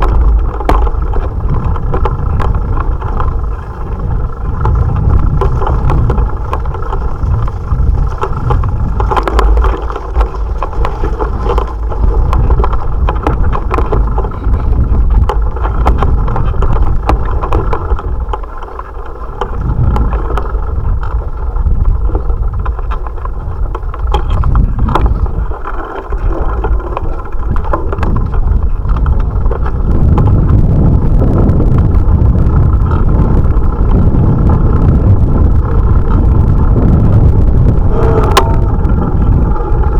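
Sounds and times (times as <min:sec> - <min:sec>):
bicycle rattles and clicks: 0:00.0 - 0:39.9
wind buffeting microphone: 0:00.0 - 0:39.9.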